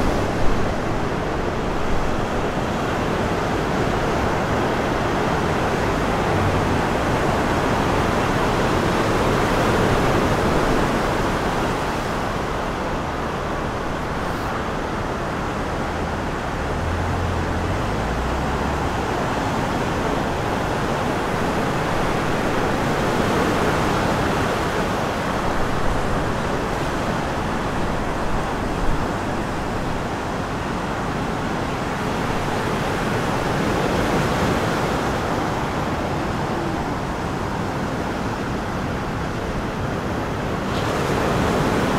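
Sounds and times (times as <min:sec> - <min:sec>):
small waves breaking: 0:00.0 - 0:41.9
wind rumble on microphone: 0:00.0 - 0:41.9.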